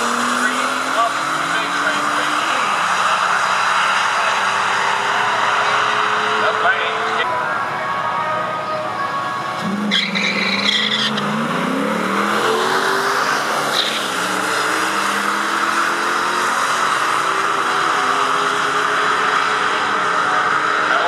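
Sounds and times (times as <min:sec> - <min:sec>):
tire squeal: 0:00.0 - 0:07.2, 0:09.6 - 0:21.0
car engine revving through gears: 0:00.0 - 0:07.3, 0:09.5 - 0:21.0.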